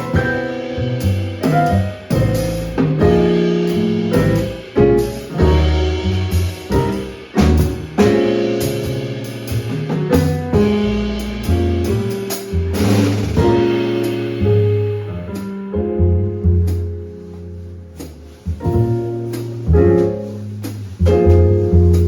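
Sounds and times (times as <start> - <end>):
drum kit and cymbals: 0.0 - 15.8, 16.5 - 22.0
bass notes: 0.0 - 22.0
piano playing chords: 0.0 - 22.0.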